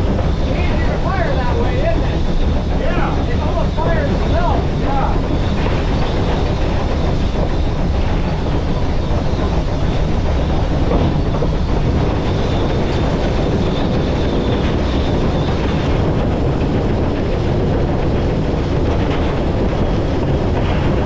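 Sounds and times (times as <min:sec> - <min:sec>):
steam locomotive running: 0:00.0 - 0:21.0.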